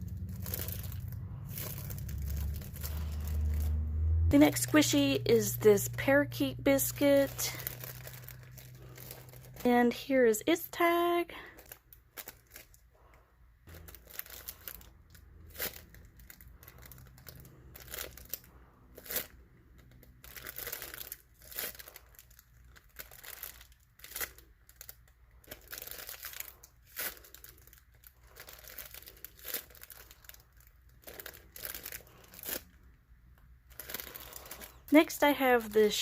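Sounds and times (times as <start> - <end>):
squishy toy crinkling and rustling: 0.0 - 3.8, 4.5 - 36.0.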